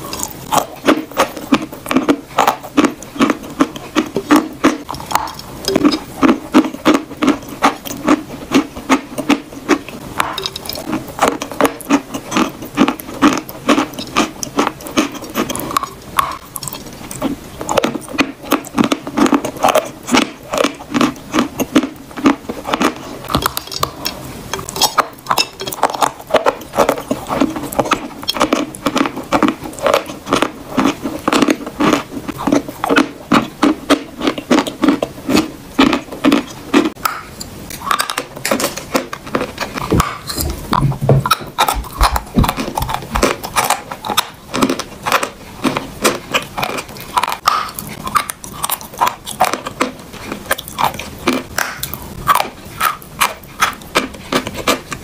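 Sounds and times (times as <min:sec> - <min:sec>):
chewing chalk crunches: 0:00.0 - 0:55.0.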